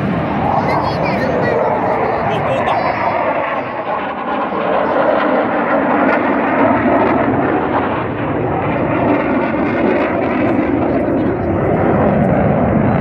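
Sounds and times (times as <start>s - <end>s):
jet engines flying overhead: 0.0s - 13.0s.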